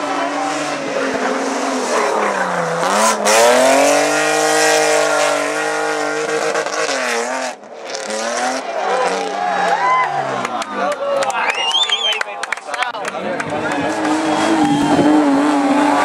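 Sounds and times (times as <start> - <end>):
rally car engine revving: 0.0 - 10.7, 13.4 - 16.0.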